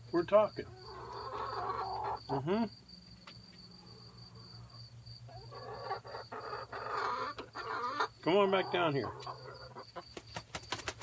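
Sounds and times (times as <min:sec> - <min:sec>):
hens clucking softly: 0:00.6 - 0:03.4, 0:04.0 - 0:11.0.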